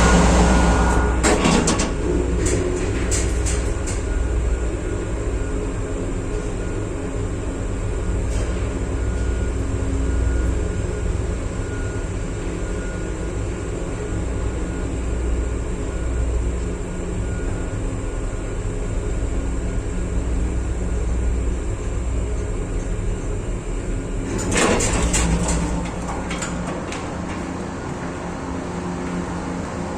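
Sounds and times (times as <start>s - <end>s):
engine room machinery hum: 0.0s - 29.9s.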